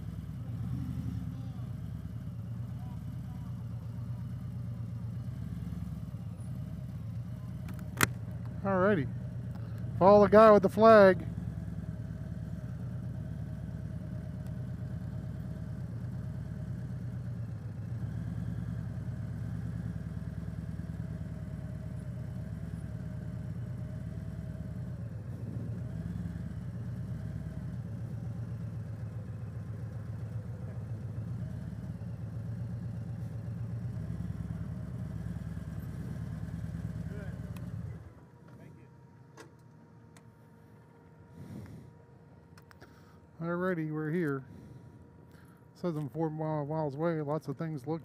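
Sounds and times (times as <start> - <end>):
motorcycle engine running at low revs: 0.0 - 48.0.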